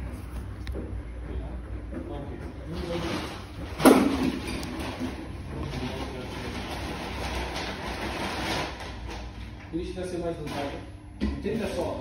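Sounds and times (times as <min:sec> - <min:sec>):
washing machine drum churning: 0:00.9 - 0:10.8.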